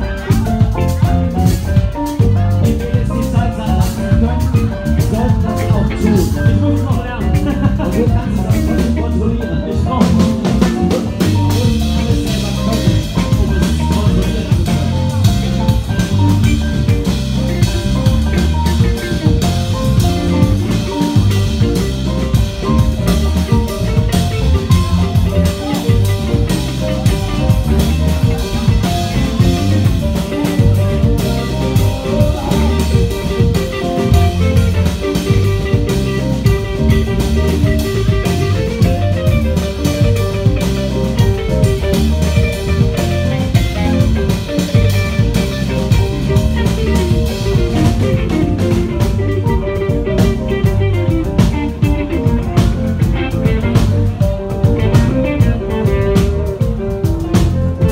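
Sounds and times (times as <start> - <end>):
drum kit: 0.0 - 57.9
electric guitar: 0.0 - 57.9
keyboard: 0.0 - 57.9
live band playing: 0.0 - 57.9.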